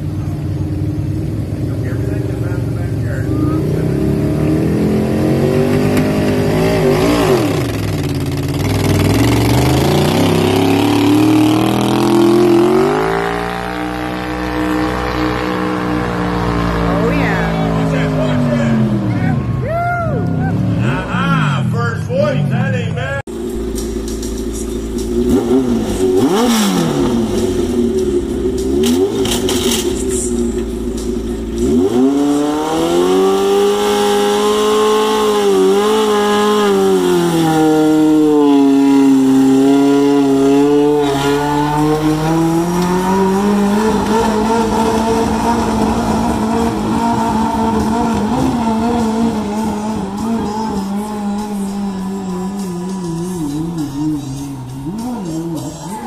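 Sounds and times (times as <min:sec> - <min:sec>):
tractor engine revving: 0:00.0 - 0:56.0.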